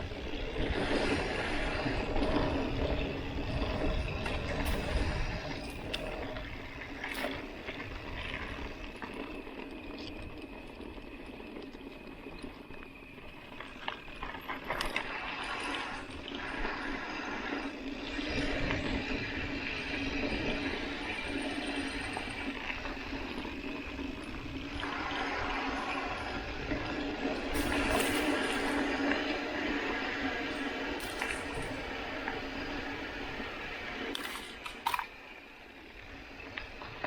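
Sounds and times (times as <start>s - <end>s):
bike rattling: 0.0s - 37.0s
bike tyres on dirt: 0.0s - 37.0s.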